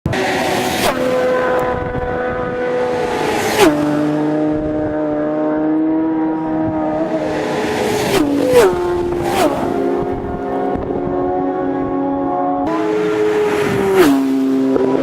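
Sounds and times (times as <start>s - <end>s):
racing motorcycle engine revving: 0.1s - 15.0s.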